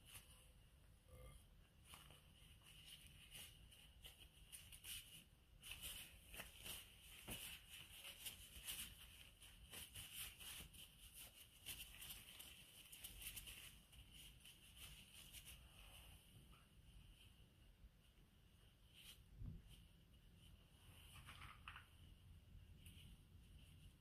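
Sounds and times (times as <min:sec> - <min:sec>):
gloves crinkling squeezing dough: 0:00.0 - 0:24.0.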